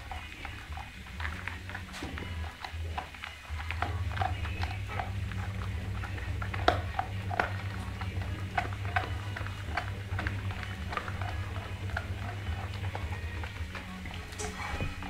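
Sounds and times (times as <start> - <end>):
dog gnawing a bone: 0.0 - 15.0.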